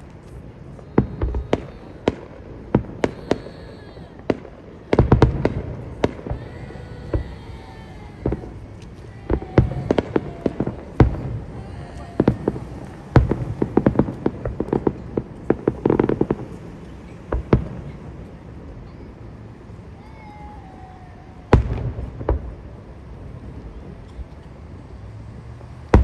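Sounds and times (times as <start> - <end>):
fireworks bangs and pops: 0.0 - 19.5, 21.5 - 24.8, 25.8 - 26.0
firework crackling: 0.0 - 26.0.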